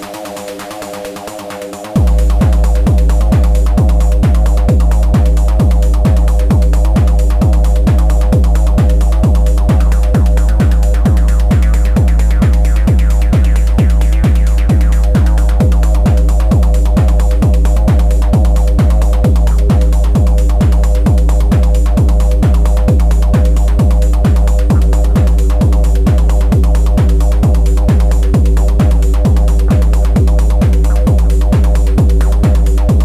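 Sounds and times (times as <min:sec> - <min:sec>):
fast high ticks: 0:00.0 - 0:33.0
kick drum: 0:00.0 - 0:33.0.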